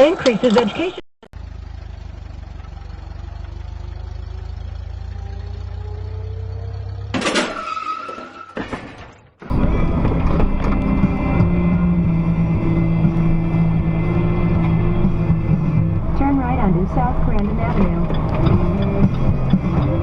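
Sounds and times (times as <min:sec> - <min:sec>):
vehicle engine rumble: 0:00.0 - 0:08.1, 0:09.2 - 0:20.0.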